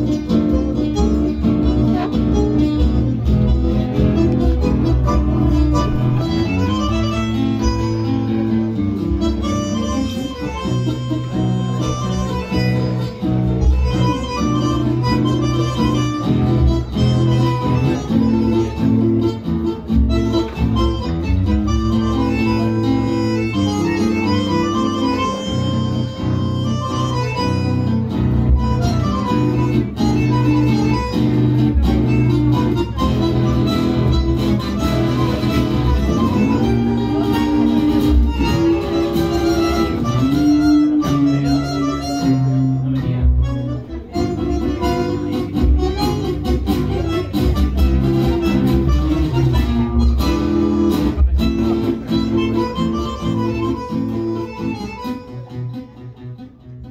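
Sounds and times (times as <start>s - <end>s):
bass line: 0.0s - 56.9s
plucked acoustic guitar: 0.0s - 56.9s
reedy melody notes: 0.0s - 56.9s.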